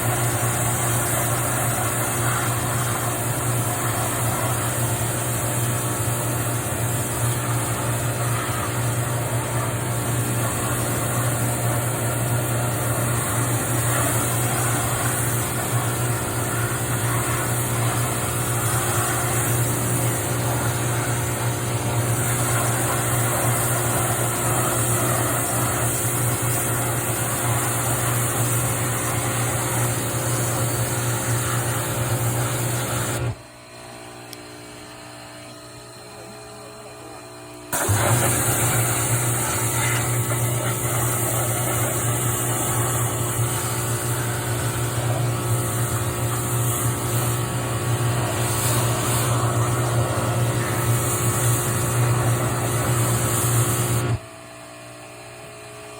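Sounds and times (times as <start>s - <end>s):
pressure washer hum: 0.0s - 33.4s, 37.8s - 54.2s
water jet spraying hiss: 0.0s - 33.4s, 37.8s - 54.2s.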